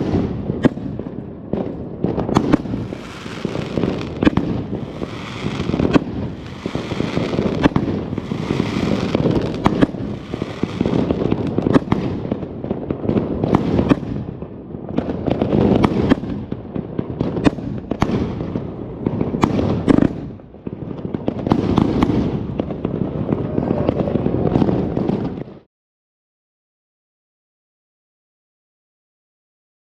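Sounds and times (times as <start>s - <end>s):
fireworks bangs: 0.0s - 25.7s.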